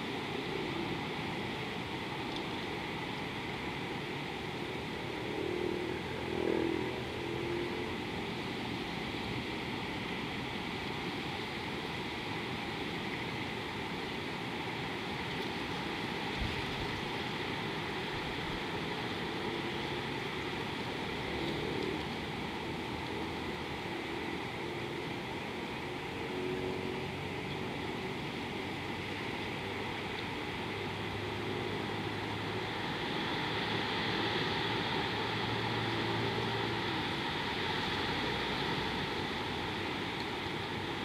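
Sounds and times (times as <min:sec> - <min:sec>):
flowing river water: 0:00.0 - 0:41.0
wind: 0:00.0 - 0:41.0.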